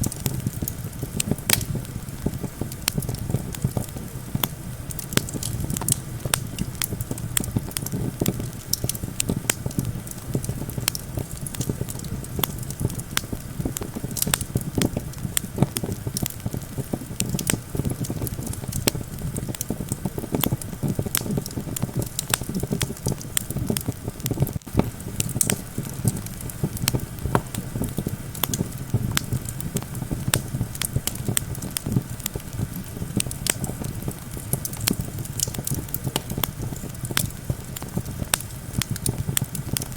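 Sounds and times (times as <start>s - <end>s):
campfire crackling and popping: 0.0s - 39.9s
low wind rumble: 0.0s - 39.9s.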